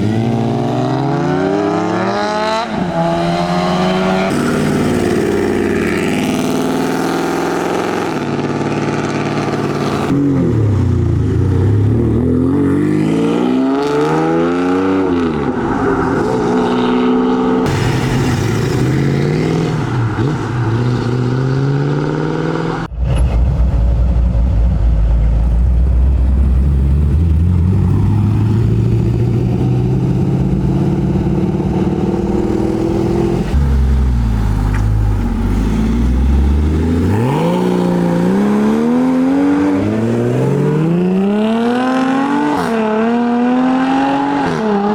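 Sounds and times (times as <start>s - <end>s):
sports car engines revving: 0.0s - 17.7s, 24.9s - 44.9s.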